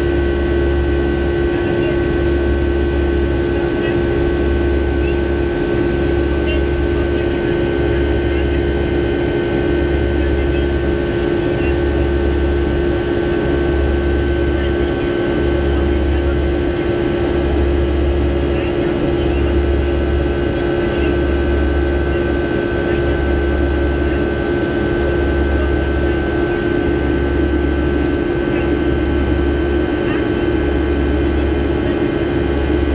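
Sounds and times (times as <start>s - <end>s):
jet engine and airflow in cabin: 0.0s - 32.9s.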